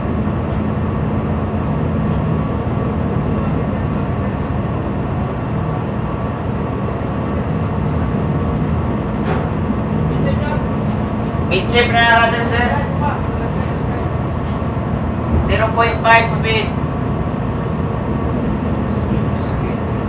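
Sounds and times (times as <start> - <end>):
ship engine drone: 0.0 - 20.0.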